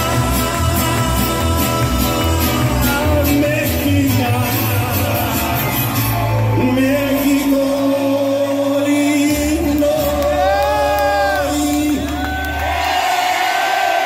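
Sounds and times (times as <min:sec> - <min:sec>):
man singing into microphone: 0:00.0 - 0:12.6
backing music with bass: 0:00.0 - 0:12.8.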